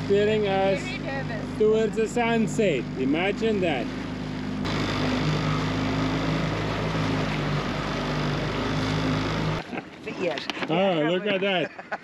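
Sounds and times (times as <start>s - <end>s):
water and wind rushing: 0.0s - 11.6s
outboard motor running: 0.0s - 11.7s.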